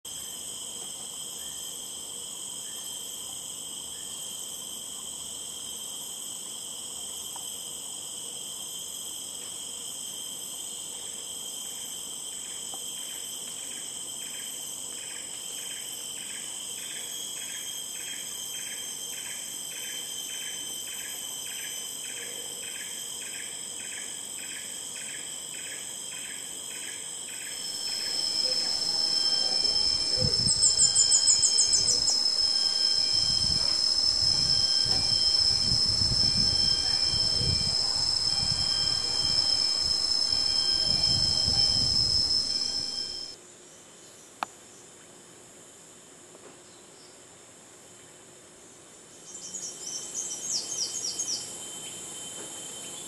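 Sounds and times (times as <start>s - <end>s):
cicadas and crickets shrilling: 0.1s - 43.4s, 48.8s - 53.0s
rhythmic pulsing insect call: 0.1s - 43.4s, 49.1s - 53.0s.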